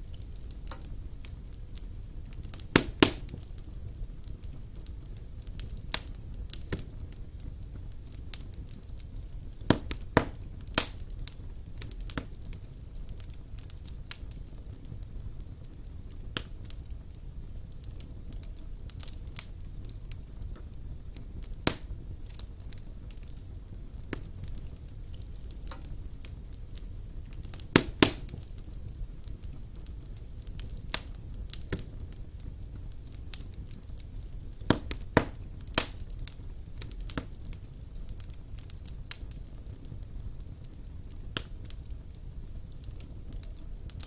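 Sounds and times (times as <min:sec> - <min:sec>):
burning logs popping and crackling: 0:00.0 - 0:44.0
low rumble of flames: 0:00.0 - 0:44.0.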